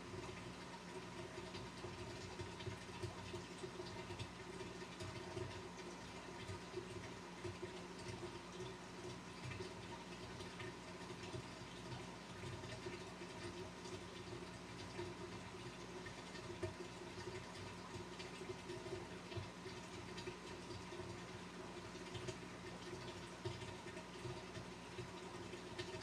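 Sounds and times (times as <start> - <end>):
aquarium pump hum: 0.0 - 26.0
water trickling: 0.0 - 26.0.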